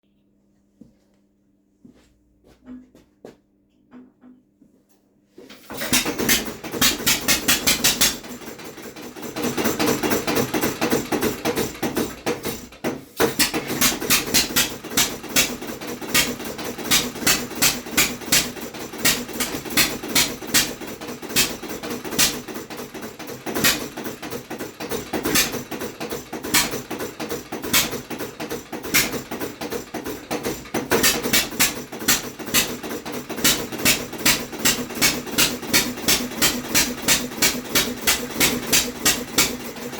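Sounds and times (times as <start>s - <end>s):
small engine firing with bangs: 5.6s - 39.9s.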